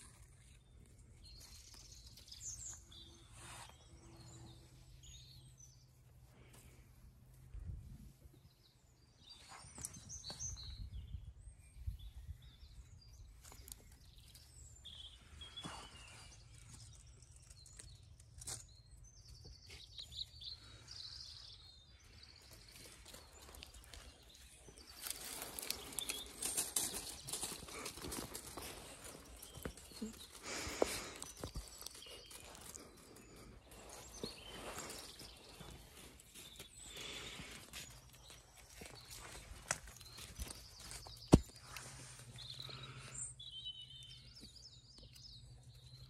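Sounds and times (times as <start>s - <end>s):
faint birdsong: 0.0s - 46.0s.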